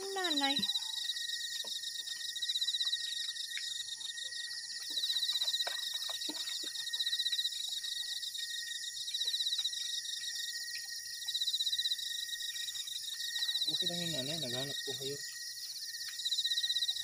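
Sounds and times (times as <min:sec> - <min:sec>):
crickets ringing: 0:00.0 - 0:17.0
pulsing cricket trill: 0:00.0 - 0:17.0.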